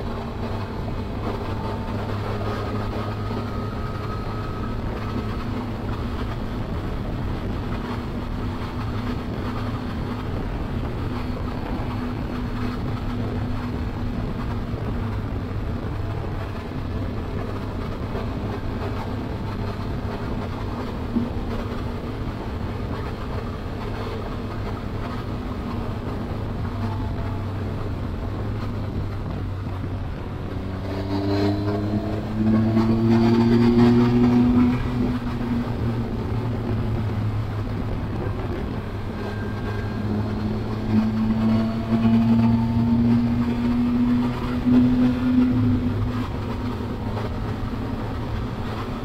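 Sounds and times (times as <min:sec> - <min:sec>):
motorcycle engine: 0:00.0 - 0:49.0
riding noise rush: 0:00.0 - 0:49.0.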